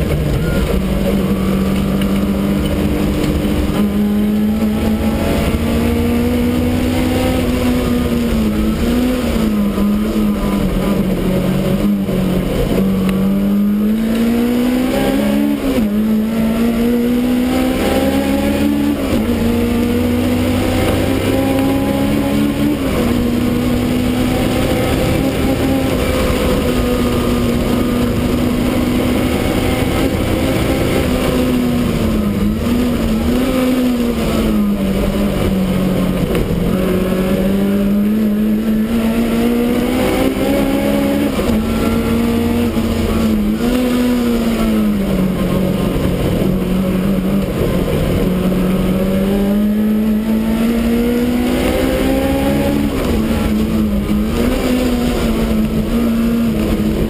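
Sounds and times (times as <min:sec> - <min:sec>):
race car engine revving: 0:00.0 - 0:57.0
road and wind noise: 0:00.0 - 0:57.0.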